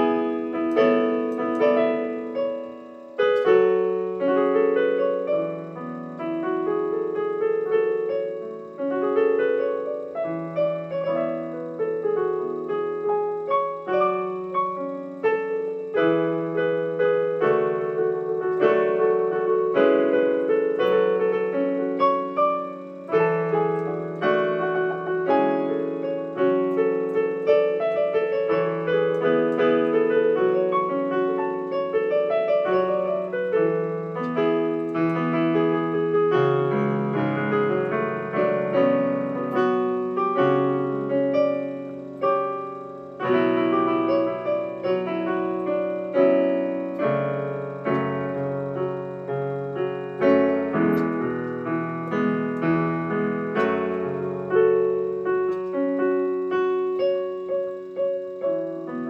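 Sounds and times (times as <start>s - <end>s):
solo digital piano: 0.0s - 59.0s.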